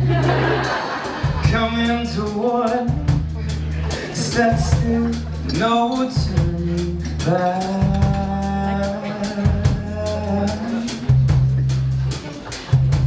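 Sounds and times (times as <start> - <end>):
bass notes: 0.0 - 13.0
drum kit beat: 0.0 - 13.0
live band playing upbeat song: 0.0 - 13.0.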